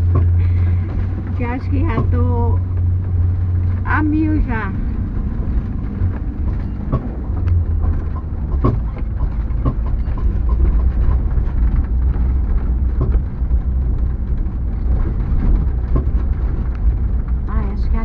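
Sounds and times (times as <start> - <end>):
knocks and rattles: 0.0 - 18.0
vehicle engine and tyre drone: 0.0 - 18.0.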